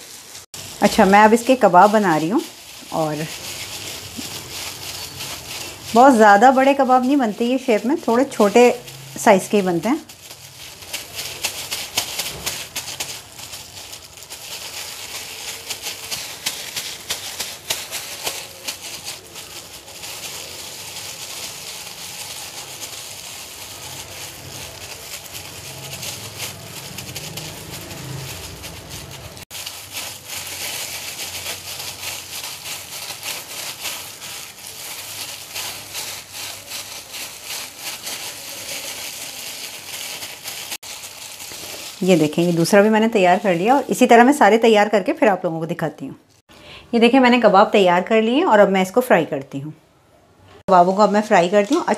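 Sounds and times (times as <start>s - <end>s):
plastic gloves crinkling: 0.0s - 49.5s, 50.6s - 51.9s.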